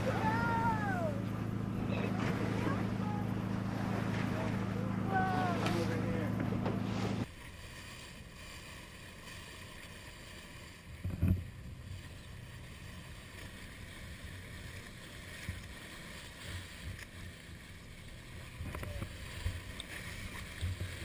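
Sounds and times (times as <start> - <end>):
boat engine and water rush: 0.0 - 21.0
hull thumping on waves: 0.0 - 21.0.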